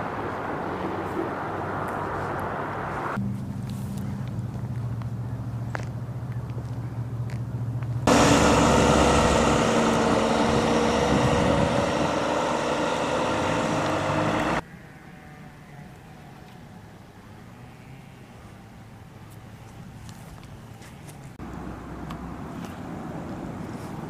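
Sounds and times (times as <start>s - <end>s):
vehicle engine and road noise: 0.0s - 14.7s, 16.9s - 24.0s
faint outdoor background: 0.0s - 24.0s.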